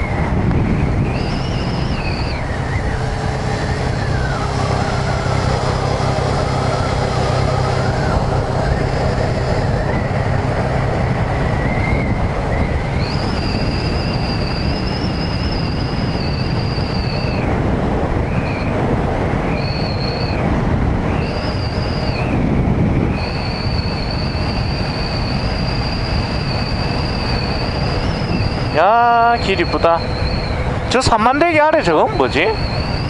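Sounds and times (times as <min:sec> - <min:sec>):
motorcycle engine: 0:00.0 - 0:33.0
thin high whine: 0:00.0 - 0:33.0
wind rush: 0:00.0 - 0:33.0.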